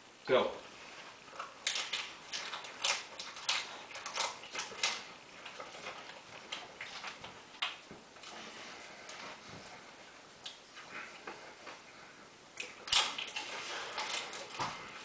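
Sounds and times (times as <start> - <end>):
people chewing and smacking: 0.6 - 15.0.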